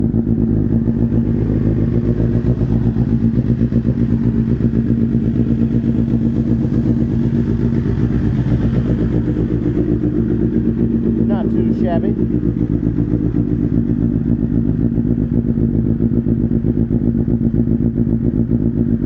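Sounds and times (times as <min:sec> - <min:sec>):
motorcycle idling: 0:00.0 - 0:19.0.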